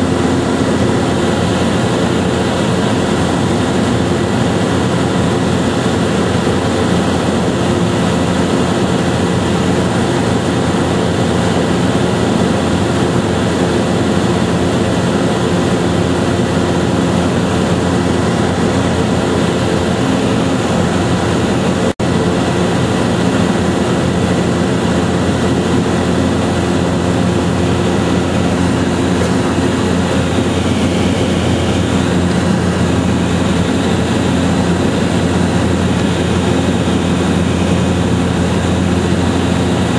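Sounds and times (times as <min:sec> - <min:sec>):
loud mechanical engine drone: 0:00.0 - 0:39.9.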